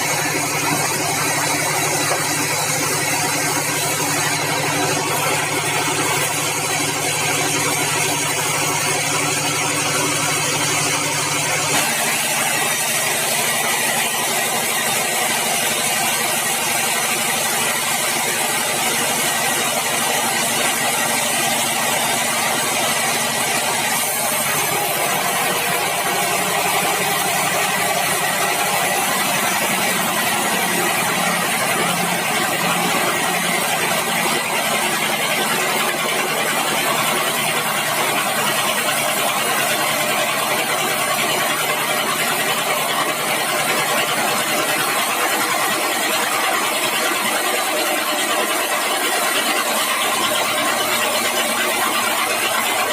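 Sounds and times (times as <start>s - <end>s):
bandsaw mill droning: 0.0s - 52.9s.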